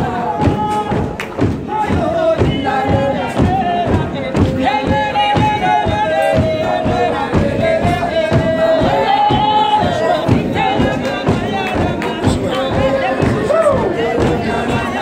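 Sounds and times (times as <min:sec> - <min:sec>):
congregation singing: 0:00.0 - 0:15.0
steady rhythmic beat: 0:00.0 - 0:15.0.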